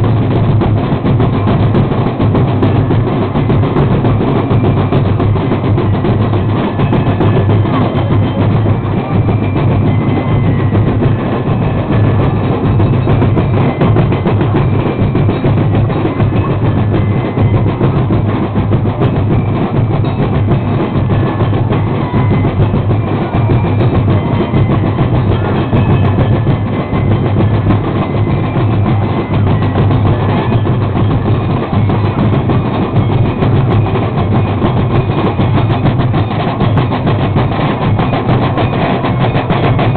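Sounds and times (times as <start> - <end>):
drums pounding a dance beat: 0.0 - 39.9.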